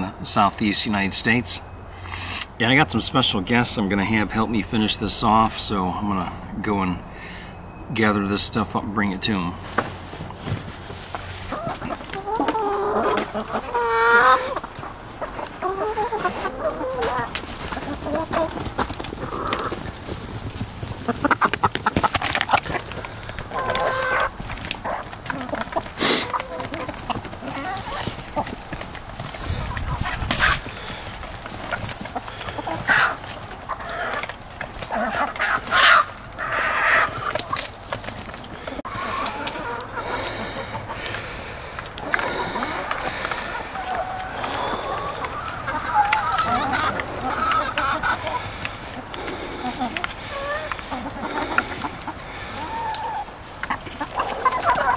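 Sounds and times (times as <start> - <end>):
hens clucking and calling: 0.0 - 54.9.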